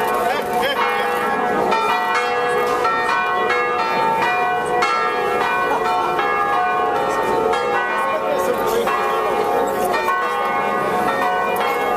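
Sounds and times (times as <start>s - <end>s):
bells tolling: 0.0s - 11.9s.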